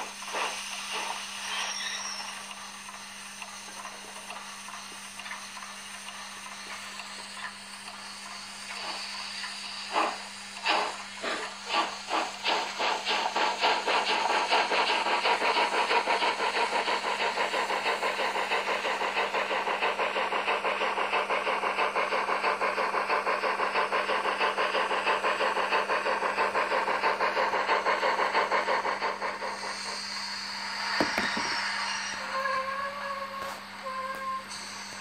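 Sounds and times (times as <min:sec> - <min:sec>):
model steam locomotive chuffing: 0:00.0 - 0:35.0.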